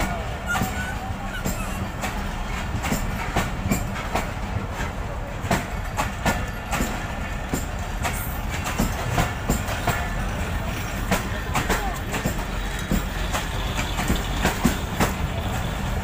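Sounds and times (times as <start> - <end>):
train coaches rumbling past: 0.0 - 16.0
wheel clicks over rail joints: 0.0 - 16.0.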